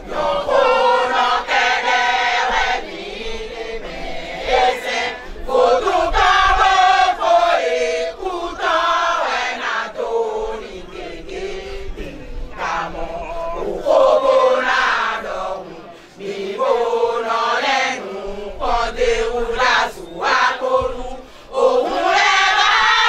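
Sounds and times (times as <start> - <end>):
women's chorus chanting: 0.0 - 23.0.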